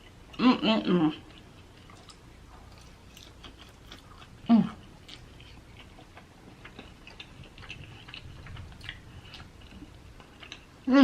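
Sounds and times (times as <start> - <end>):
person chewing: 0.0 - 10.9.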